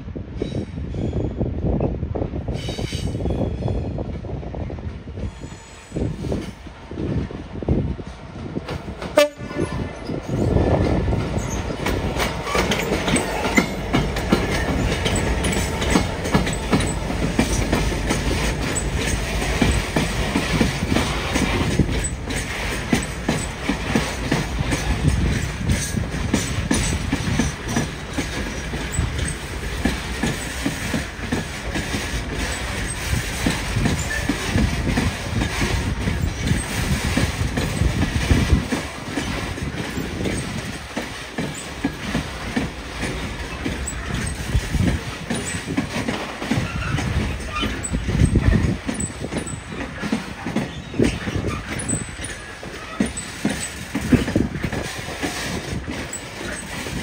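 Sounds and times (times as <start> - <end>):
train wheels clattering: 4.9 - 57.0.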